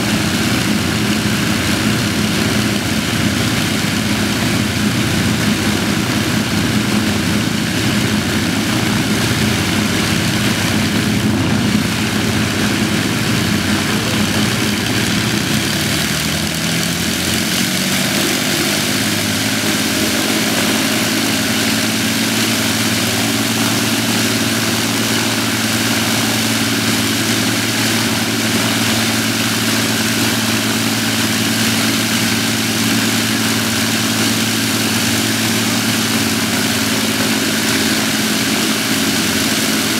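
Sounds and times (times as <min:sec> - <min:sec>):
aircraft piston engines running: 0:00.0 - 0:39.9.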